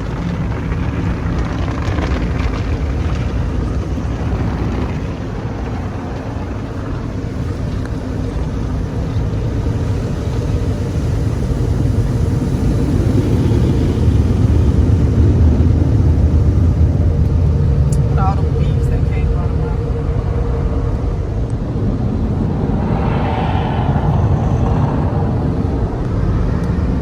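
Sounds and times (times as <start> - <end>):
car wash machinery rumbling: 0.0 - 27.0.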